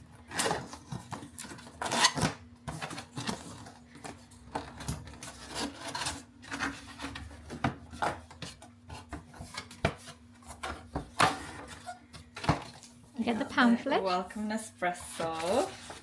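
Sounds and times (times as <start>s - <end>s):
box packaging scraping and rustling: 0.2s - 13.0s, 15.2s - 16.0s.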